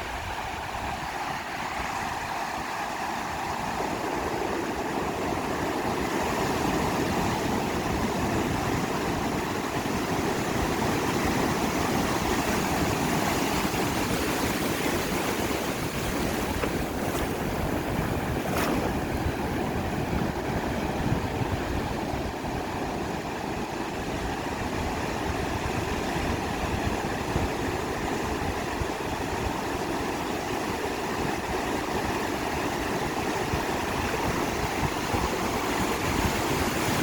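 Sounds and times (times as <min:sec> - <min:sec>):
waves washing onto beach: 0:00.0 - 0:37.0.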